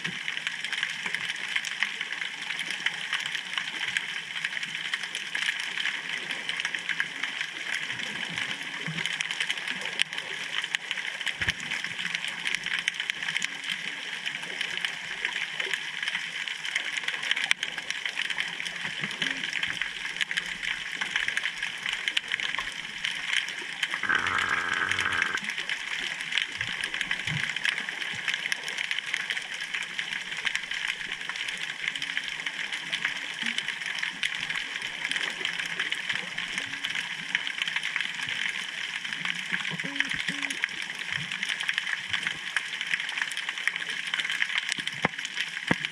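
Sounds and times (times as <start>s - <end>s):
underwater hiss with crackling clicks: 0.0s - 45.9s.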